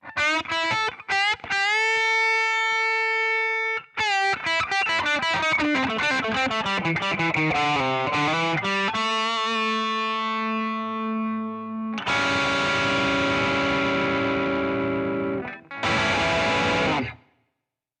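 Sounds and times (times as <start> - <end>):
electric guitar chords: 0.0 - 17.2.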